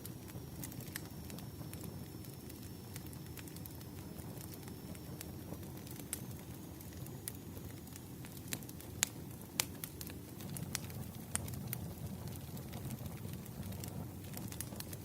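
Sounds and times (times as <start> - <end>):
rumble of flames: 0.0 - 15.0
firewood popping and snapping: 0.3 - 15.0.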